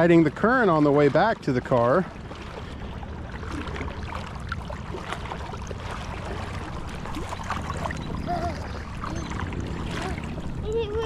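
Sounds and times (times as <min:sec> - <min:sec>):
flowing water rushing: 0:00.0 - 0:11.0
water sloshing around wading legs: 0:00.0 - 0:11.0.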